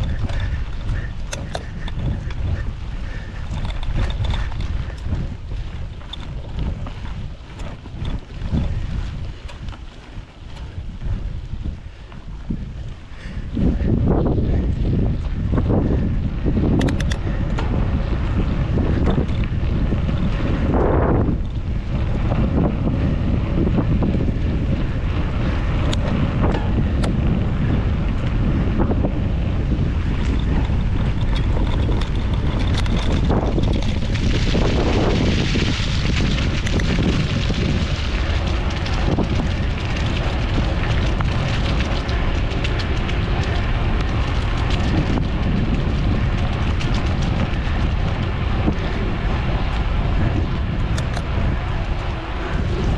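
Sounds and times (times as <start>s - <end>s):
bike knocks and rattles: 0.0s - 52.9s
steady low rumble: 0.0s - 52.9s
wind buffeting microphone: 0.0s - 52.9s.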